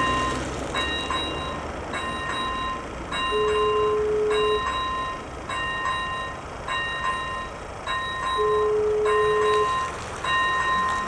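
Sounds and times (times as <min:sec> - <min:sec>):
level crossing bell ringing: 0:00.0 - 0:11.0
steady lower tone: 0:00.0 - 0:11.0.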